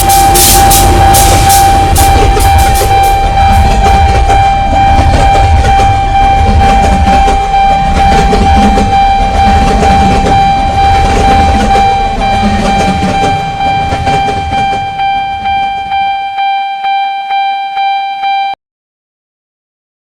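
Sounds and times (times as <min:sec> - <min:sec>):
freight train rumbling: 0:00.0 - 0:16.6
high-pitched steady tone: 0:00.0 - 0:18.6.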